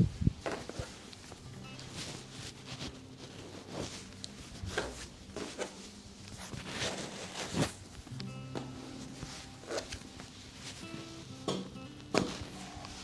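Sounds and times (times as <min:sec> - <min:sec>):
clothing rustling and shuffling: 0:00.0 - 0:13.0.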